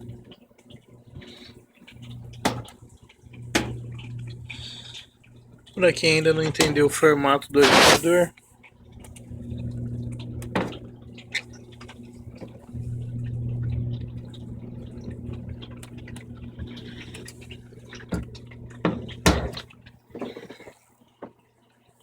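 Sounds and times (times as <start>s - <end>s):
washing machine motor humming: 0.0s - 20.8s.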